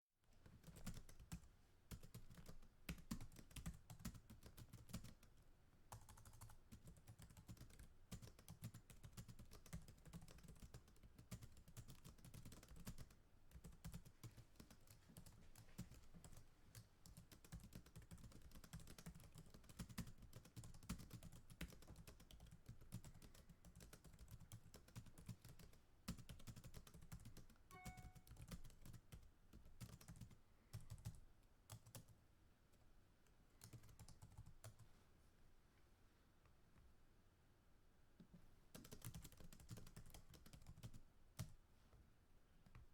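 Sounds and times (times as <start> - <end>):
fast keyboard typing: 0.5 - 5.3, 5.9 - 32.1, 33.6 - 34.8, 38.7 - 41.5.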